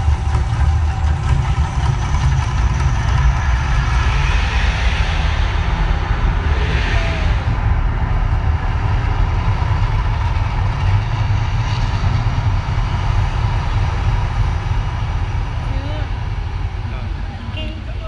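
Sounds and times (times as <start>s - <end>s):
deep steady rumble: 0.0s - 18.0s.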